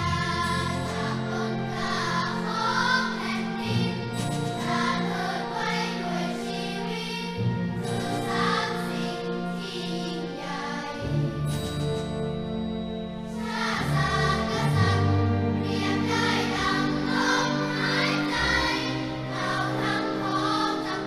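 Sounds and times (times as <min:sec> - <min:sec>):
children's choir singing: 0:00.0 - 0:21.0
orchestra strings and brass: 0:00.0 - 0:21.0.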